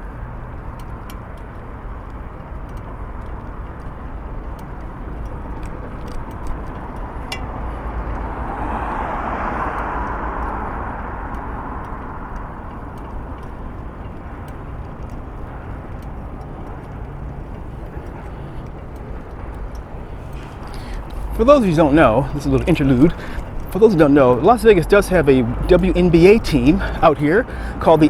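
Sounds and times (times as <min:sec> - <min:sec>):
road traffic: 0:00.0 - 0:28.0
vehicle passing by: 0:00.0 - 0:28.0.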